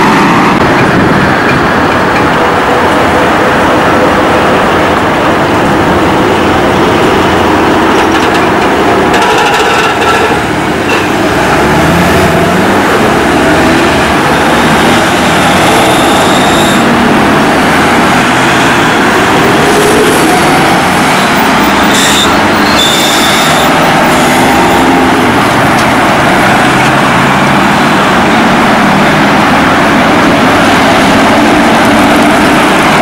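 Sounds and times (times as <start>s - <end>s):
city traffic passing: 0.0s - 33.0s
trolleybus electric drive whine: 0.0s - 33.0s.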